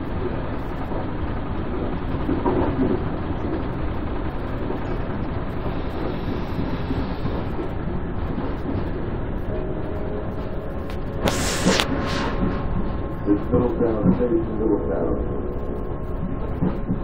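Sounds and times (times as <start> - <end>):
train car low rumble: 0.0 - 17.0.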